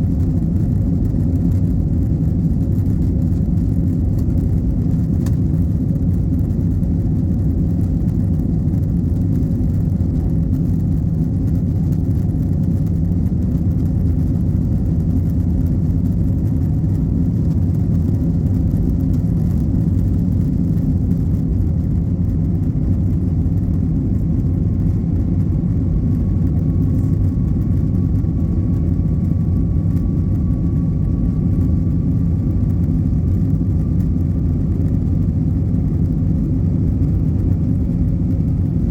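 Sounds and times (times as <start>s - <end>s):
faint thin whine: 0.0s - 38.9s
jet engine cabin rumble: 0.0s - 38.9s.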